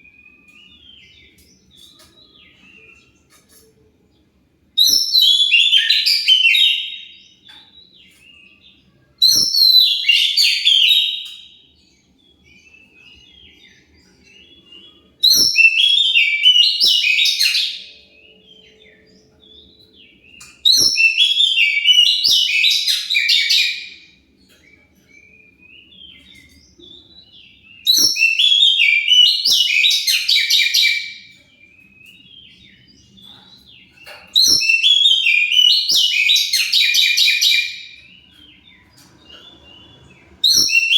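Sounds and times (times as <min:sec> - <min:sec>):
magpie-robin song: 0:00.0 - 0:40.9.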